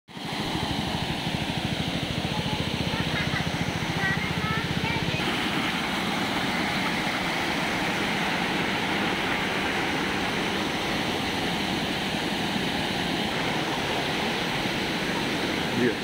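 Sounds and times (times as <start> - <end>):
waterfall rushing: 0.1 - 16.0.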